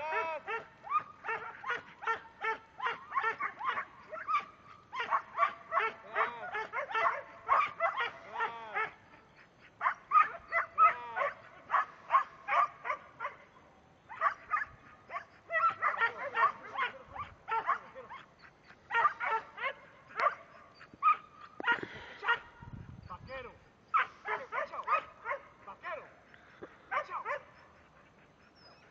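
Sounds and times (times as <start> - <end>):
dog barking: 0.1 - 9.0, 9.8 - 13.4, 14.1 - 18.3, 18.9 - 22.5, 23.9 - 26.1, 26.9 - 27.7.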